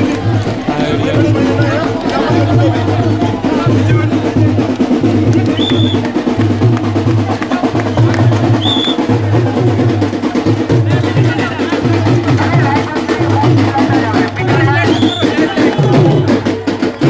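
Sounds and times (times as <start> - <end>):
music with steady drum beat: 0.0 - 17.0.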